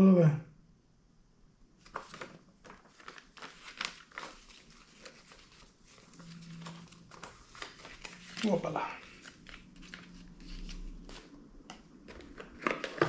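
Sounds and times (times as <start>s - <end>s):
paper rustling and crinkling: 1.8s - 13.0s.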